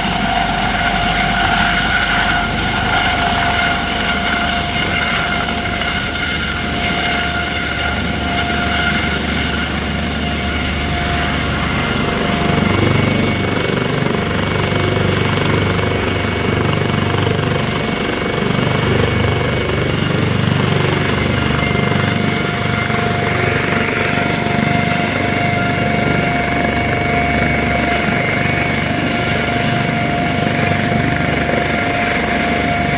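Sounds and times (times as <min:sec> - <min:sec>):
helicopter rotor blades beating: 0:00.0 - 0:32.9
helicopter turbine whine: 0:00.0 - 0:32.9.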